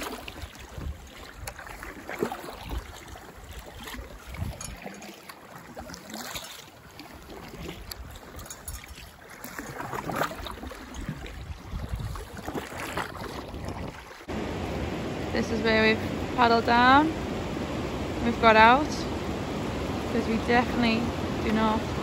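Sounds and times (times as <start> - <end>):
paddle blades splashing in water: 0.0 - 22.0
water lapping at raft: 0.0 - 22.0.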